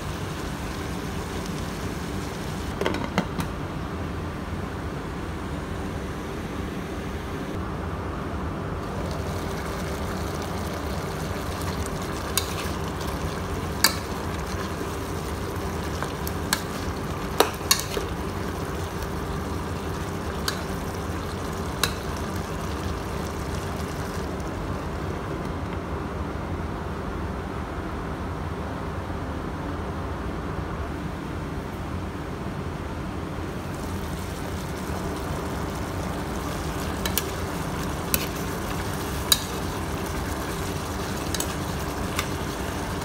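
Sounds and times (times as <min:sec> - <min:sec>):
cooking sizzle and hum: 0:00.0 - 0:29.0, 0:29.8 - 0:43.0.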